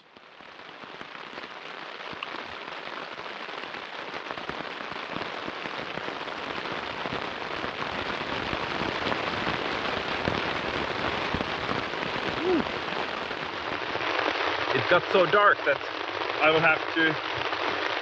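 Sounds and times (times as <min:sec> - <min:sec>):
rain on tent canopy: 0:00.0 - 0:18.0.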